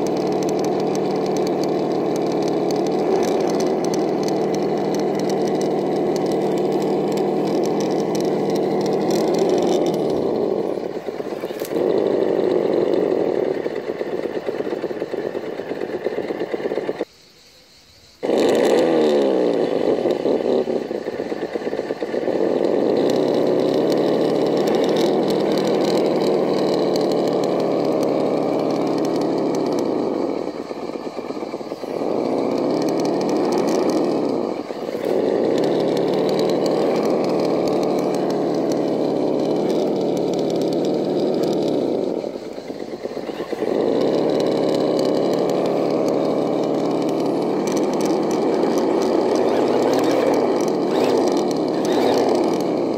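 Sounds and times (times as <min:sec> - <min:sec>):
electric motor whining: 0:00.0 - 0:17.1, 0:18.2 - 0:52.9.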